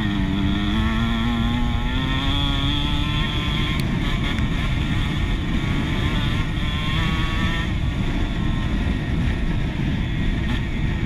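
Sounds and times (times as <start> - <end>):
dirt bike engine running: 0.0 - 11.0
wind rumble on microphone: 0.0 - 11.0.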